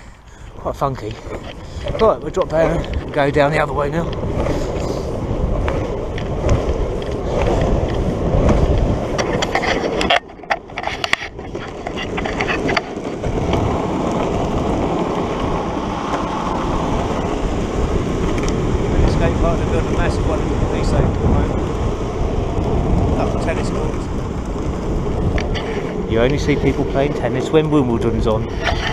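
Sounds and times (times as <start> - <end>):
longboard wheels rolling on tarmac: 0.0 - 28.9.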